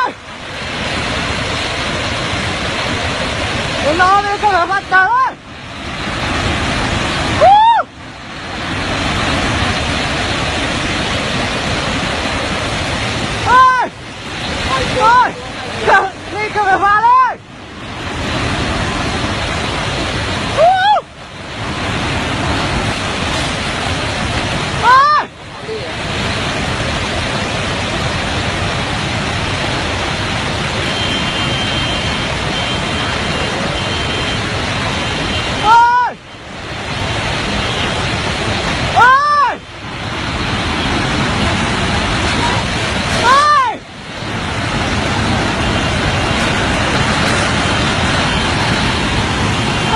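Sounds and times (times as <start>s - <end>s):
storm wind and surf rushing: 0.0s - 49.9s.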